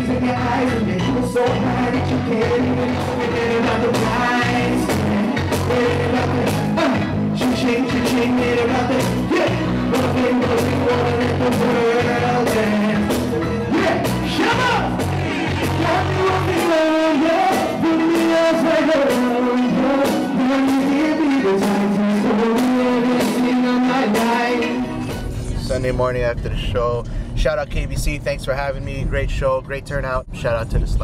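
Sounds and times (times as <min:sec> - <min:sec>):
man singing into microphone: 0:00.0 - 0:25.1
backing beat with drums: 0:00.0 - 0:27.0
heavy bass line: 0:00.0 - 0:31.0.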